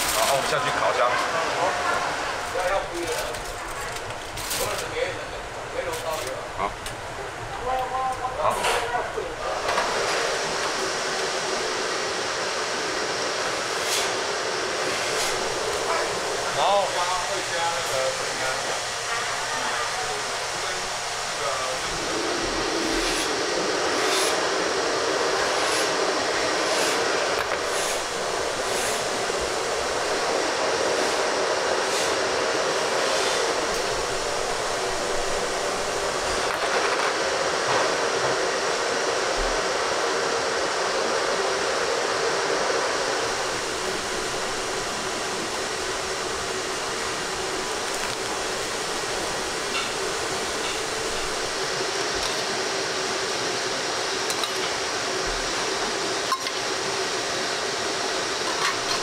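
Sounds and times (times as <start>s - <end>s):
kitchen ventilation roar: 0.0s - 59.0s.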